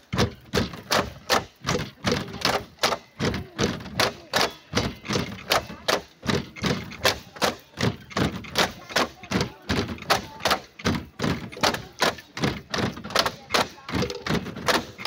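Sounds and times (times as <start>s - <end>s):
bamboo poles clacking together: 0.0s - 15.0s.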